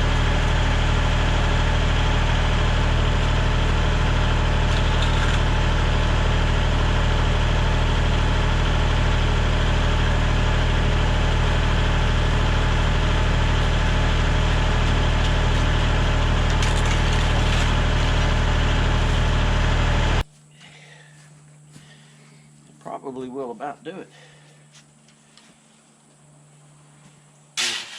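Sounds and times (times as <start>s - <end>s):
engine idling with low hum: 0.0s - 27.6s.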